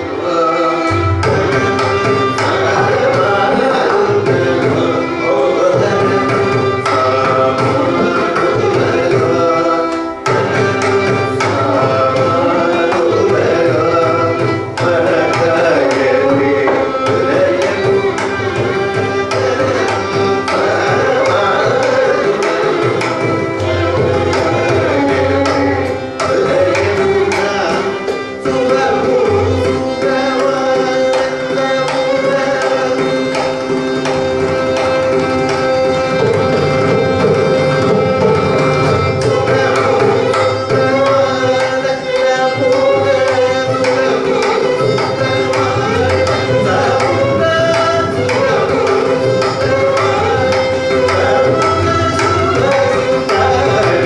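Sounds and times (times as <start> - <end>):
person singing: 0.0 - 54.0
violin melody: 0.0 - 54.0.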